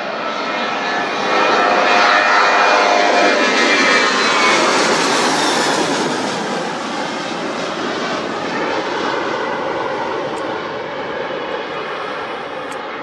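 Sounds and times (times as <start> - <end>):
jet airliner engines passing: 0.0 - 13.0.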